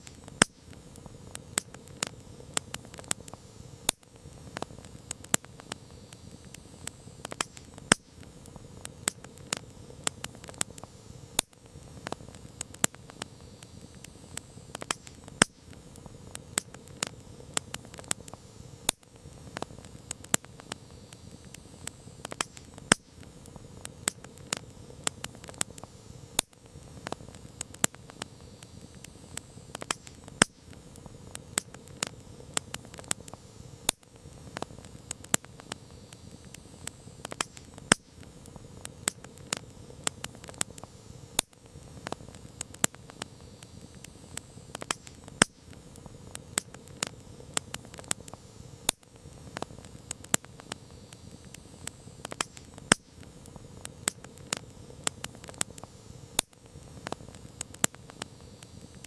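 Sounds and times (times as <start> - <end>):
burning wood popping and snapping: 0.0 - 59.0
low hiss of flames: 0.0 - 59.0.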